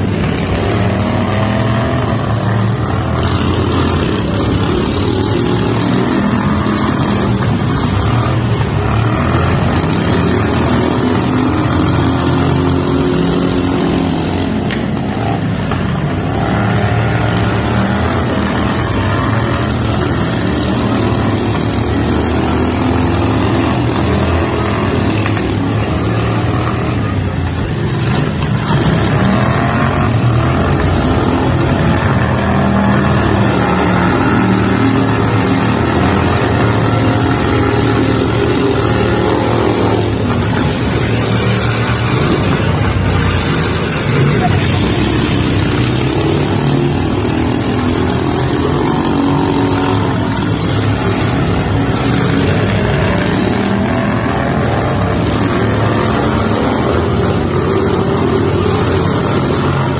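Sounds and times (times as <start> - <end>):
lawn tractor engines revving: 0.0 - 59.9.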